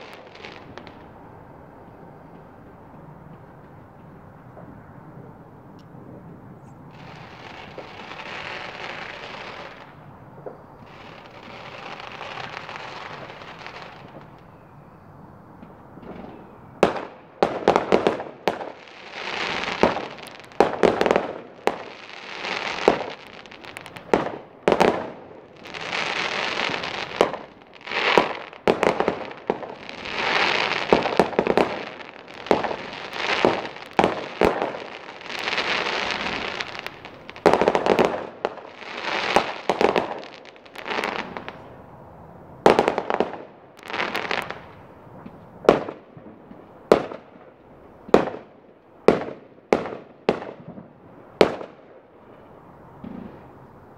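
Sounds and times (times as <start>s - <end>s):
fireworks crackling: 0.0s - 4.9s, 6.6s - 14.7s, 15.6s - 53.9s
fireworks bangs: 0.0s - 15.0s, 15.6s - 53.9s.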